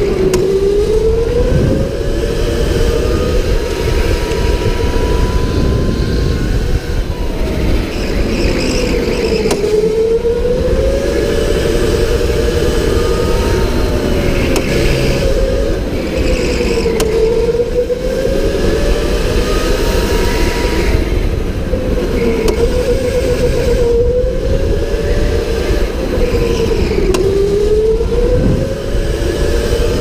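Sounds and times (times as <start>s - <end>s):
electric go-kart motor whining: 0.0s - 30.0s
low rumble of tyres: 0.0s - 30.0s.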